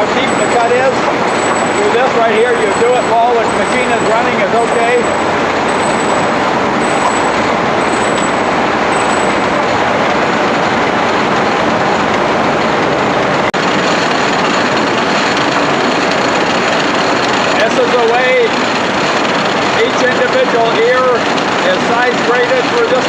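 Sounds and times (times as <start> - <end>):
corn cutting machine running: 0.0 - 23.0.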